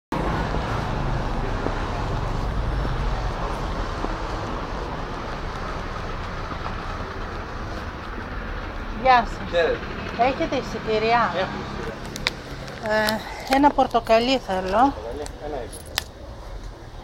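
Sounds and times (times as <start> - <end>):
street traffic rumble: 0.1 - 17.0.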